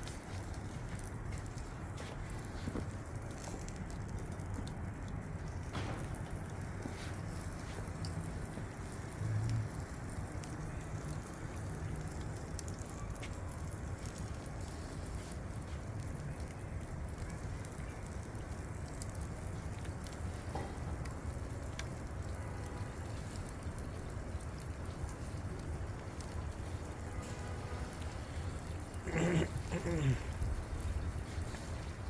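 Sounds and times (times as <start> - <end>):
charcoal crackling: 0.0 - 32.0
fish sizzling on grill: 0.0 - 32.0.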